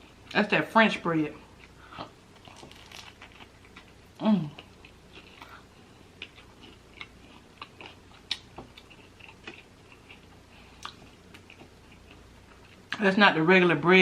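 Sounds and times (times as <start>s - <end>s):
person chewing sandwich: 1.5s - 12.9s.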